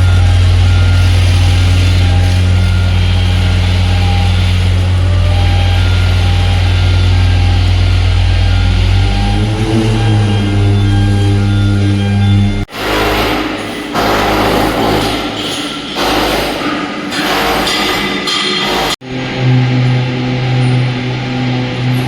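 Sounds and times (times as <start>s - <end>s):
heavy machinery humming: 0.0s - 22.0s
steady higher tones: 0.0s - 22.0s.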